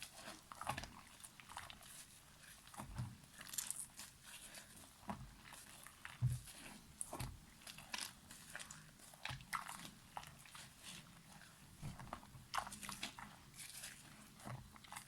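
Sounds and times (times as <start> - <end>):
dry soap crunching: 0.0 - 15.0.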